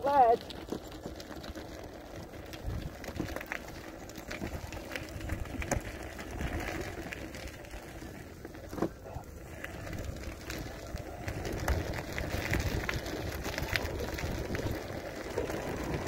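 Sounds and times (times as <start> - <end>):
tyre rumbling on dirt and gravel: 0.0 - 16.0.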